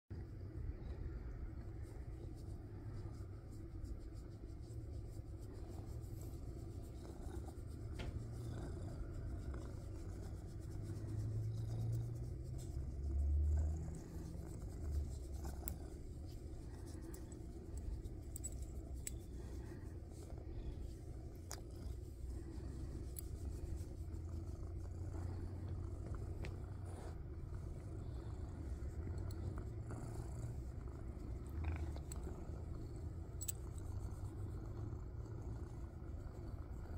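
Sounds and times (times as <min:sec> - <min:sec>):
cat purring: 0:00.1 - 0:36.9.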